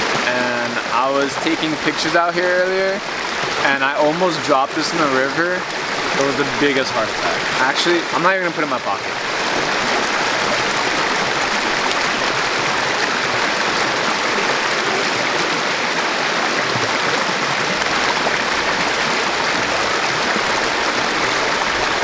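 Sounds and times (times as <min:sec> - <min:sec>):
stream rushing over stones: 0:00.0 - 0:22.0.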